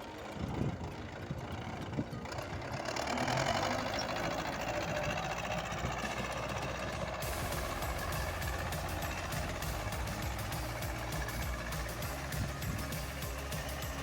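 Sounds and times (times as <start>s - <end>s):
snow blower engine running: 0.0s - 14.0s.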